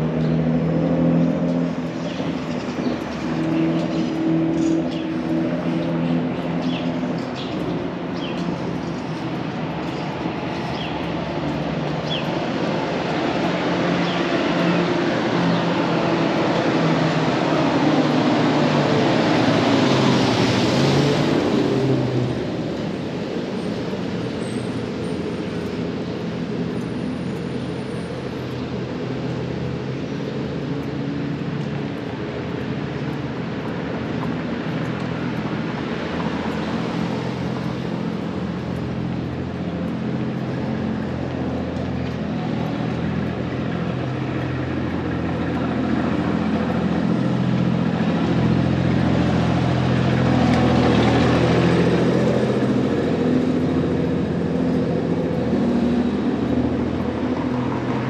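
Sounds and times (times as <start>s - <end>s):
large vehicle passing: 0.0s - 58.0s
traffic hum: 0.0s - 58.0s.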